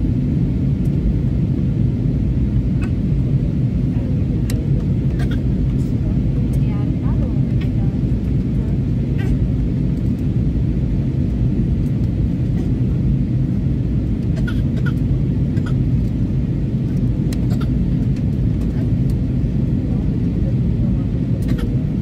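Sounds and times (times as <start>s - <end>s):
aircraft cabin rumble: 0.0s - 22.0s.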